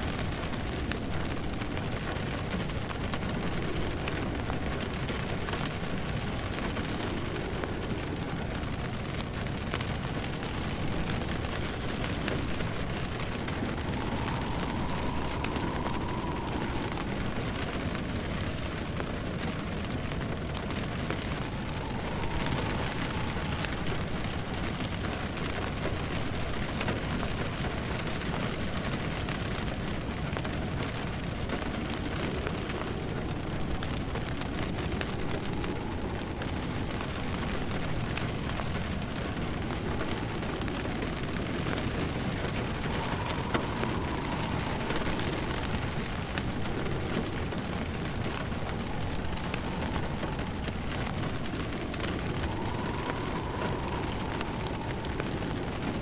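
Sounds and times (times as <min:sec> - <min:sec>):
steady rain: 0:00.0 - 0:56.0
wood fire crackling: 0:00.0 - 0:56.0
faint whistling tone: 0:03.2 - 0:30.3, 0:31.5 - 0:56.0.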